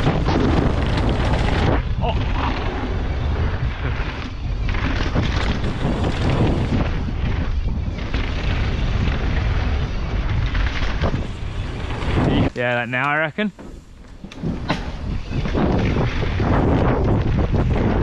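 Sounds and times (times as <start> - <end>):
bike tyres rumbling on trail: 0.0 - 18.0
wind buffeting microphone: 0.0 - 18.0.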